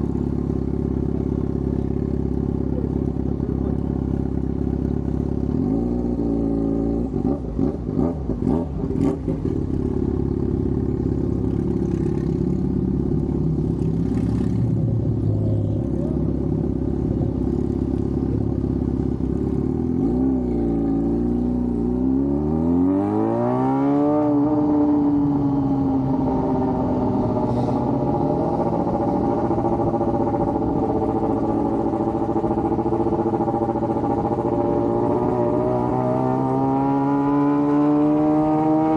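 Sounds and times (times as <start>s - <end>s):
motorcycle engine running: 0.0s - 22.6s, 24.0s - 38.9s.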